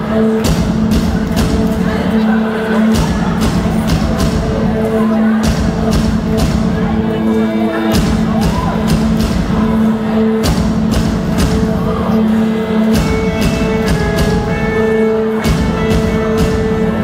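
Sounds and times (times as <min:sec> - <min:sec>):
rock band playing: 0:00.0 - 0:17.0
drum and cymbal hits: 0:00.1 - 0:17.0.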